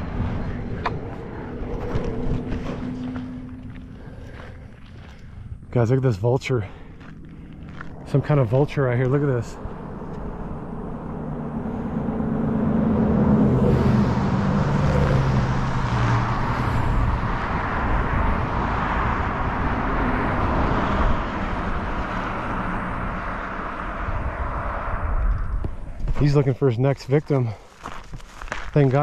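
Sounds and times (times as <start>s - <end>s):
vehicle engine passing: 0.0s - 26.5s
road noise: 0.0s - 29.0s.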